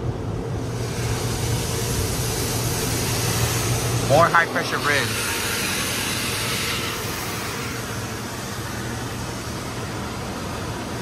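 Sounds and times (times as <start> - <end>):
water spray hissing on car: 0.6 - 11.0.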